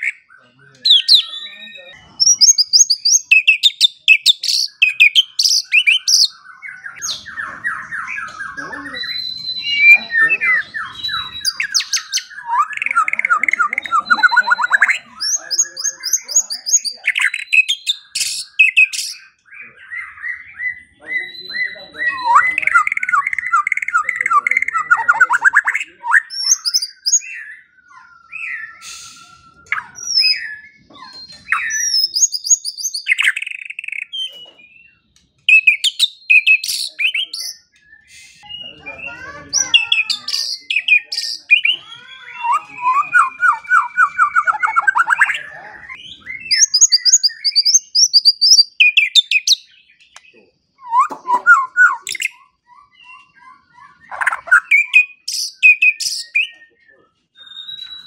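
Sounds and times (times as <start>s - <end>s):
songbird singing whistled phrases: 0.0s - 58.0s.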